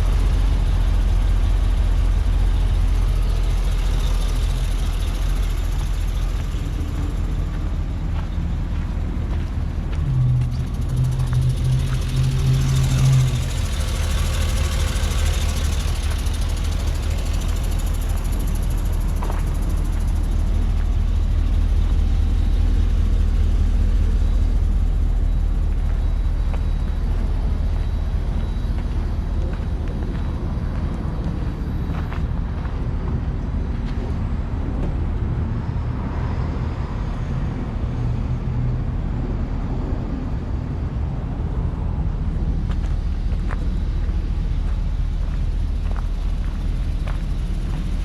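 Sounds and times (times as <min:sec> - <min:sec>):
steady low hum: 0:00.0 - 0:48.0
truck engine rumbling: 0:00.0 - 0:48.0.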